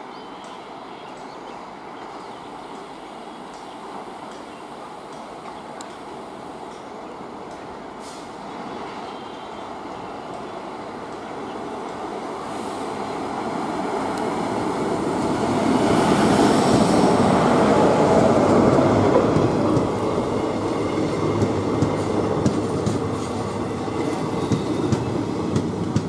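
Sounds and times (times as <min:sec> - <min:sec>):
electric locomotive passing: 0:01.7 - 0:26.0.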